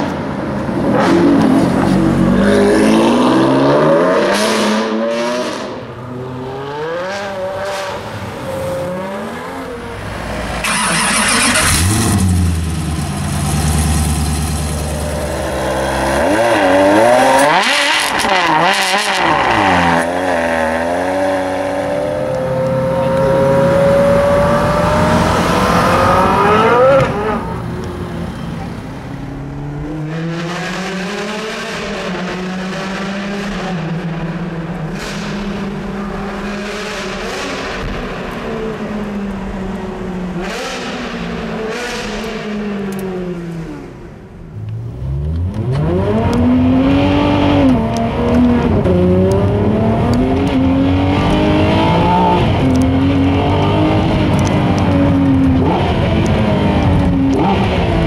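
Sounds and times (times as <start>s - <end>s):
car engines revving and accelerating: 0.0s - 58.0s.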